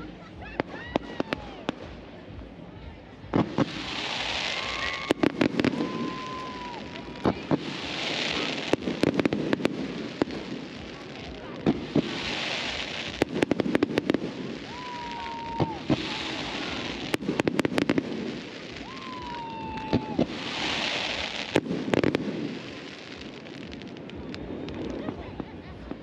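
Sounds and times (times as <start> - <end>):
fireworks whistling: 0.0 - 2.0, 3.2 - 25.2
fireworks bangs and crackling: 0.0 - 26.0.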